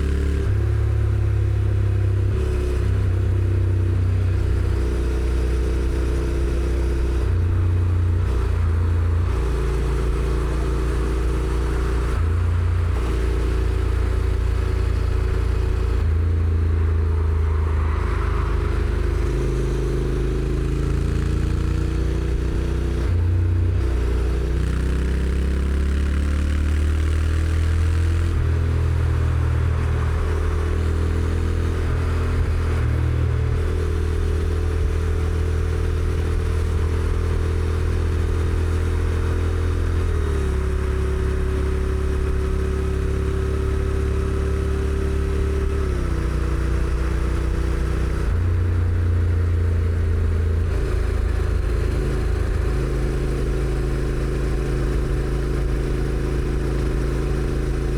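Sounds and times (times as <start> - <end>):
motorcycle engine while riding: 0.0 - 57.9
road noise: 0.0 - 57.9.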